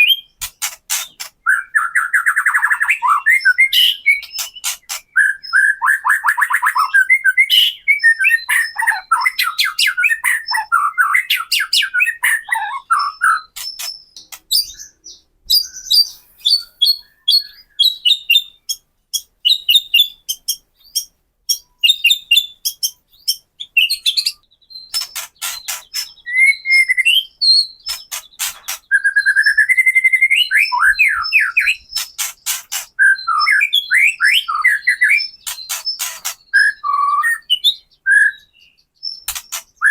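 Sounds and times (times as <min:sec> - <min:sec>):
bird singing rattling trills: 0:00.0 - 0:39.9.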